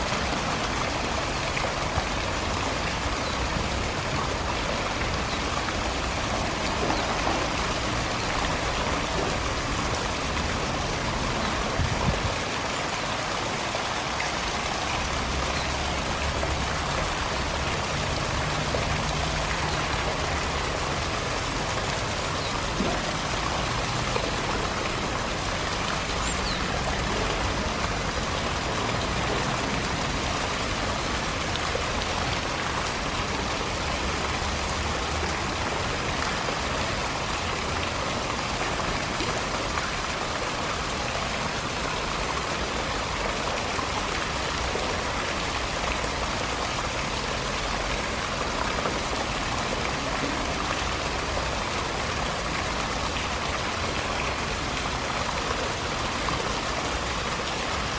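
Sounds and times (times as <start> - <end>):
water falling onto pool: 0.0 - 57.9.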